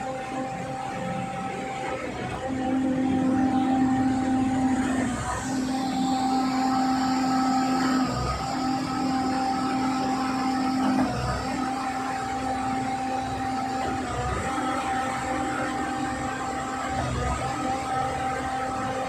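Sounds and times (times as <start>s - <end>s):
engine and hydraulic whine: 0.0s - 19.0s.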